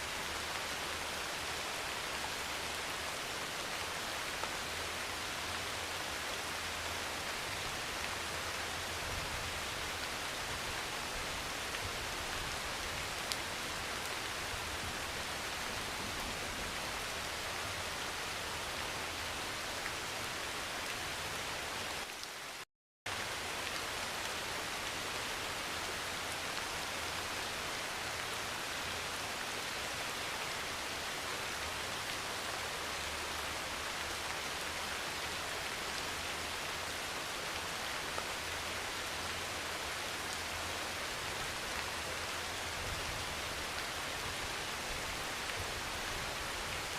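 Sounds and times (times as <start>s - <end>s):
heavy rain on a metal roof: 0.0s - 46.9s.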